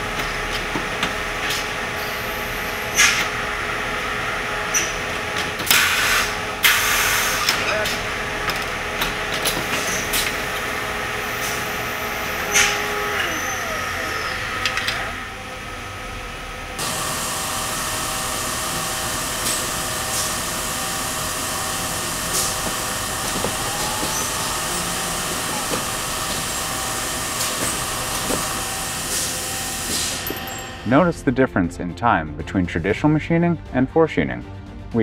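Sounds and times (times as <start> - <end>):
cutting oil hissing: 0.0 - 31.2
turning machine running: 0.0 - 31.3.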